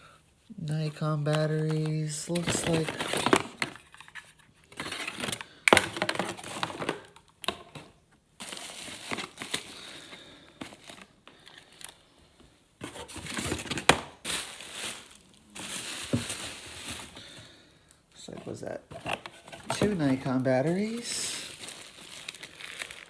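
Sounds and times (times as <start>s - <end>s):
packaging crinkling and rustling: 0.7s - 12.0s, 12.8s - 17.6s, 18.2s - 23.0s.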